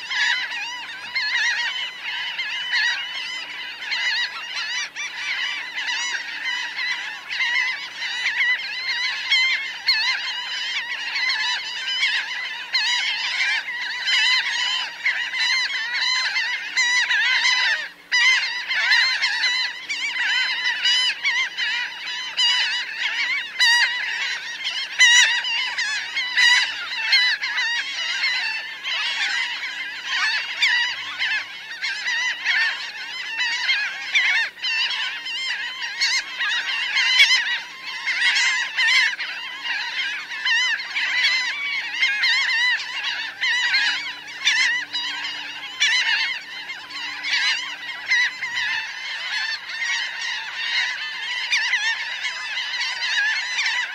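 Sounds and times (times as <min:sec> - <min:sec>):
flock of gulls calling: 0:00.0 - 0:53.9.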